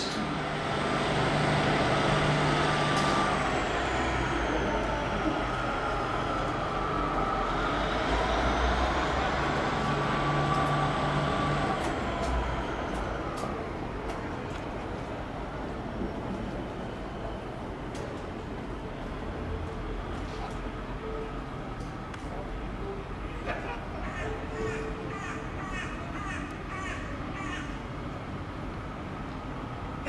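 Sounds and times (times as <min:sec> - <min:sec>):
train engine humming: 0:00.0 - 0:30.0.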